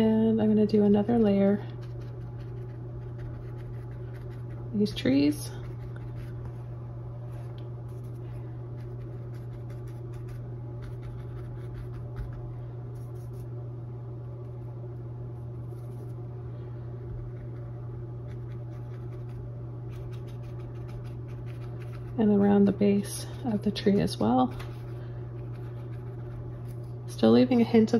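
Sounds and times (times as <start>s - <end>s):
low electrical hum: 0.0s - 27.9s.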